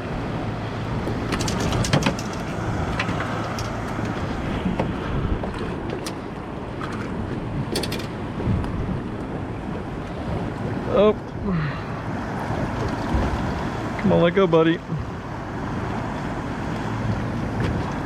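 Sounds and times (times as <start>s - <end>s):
choppy water: 0.0s - 18.0s
wind buffeting microphone: 0.0s - 18.0s.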